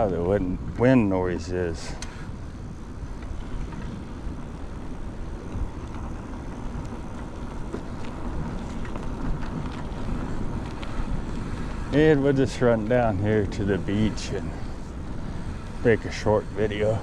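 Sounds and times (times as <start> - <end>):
low road noise: 0.0 - 17.0
wind rumbling on microphone: 0.0 - 17.0.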